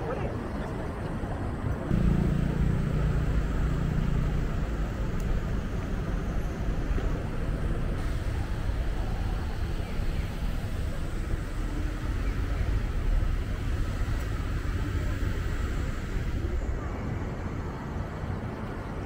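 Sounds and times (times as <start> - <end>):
low engine hum: 0.0 - 19.0
road traffic rumble: 0.0 - 19.0.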